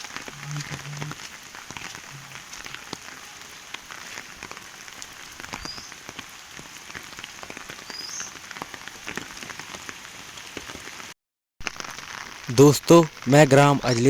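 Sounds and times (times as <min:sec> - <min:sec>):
heavy rain pattering: 0:00.0 - 0:14.0.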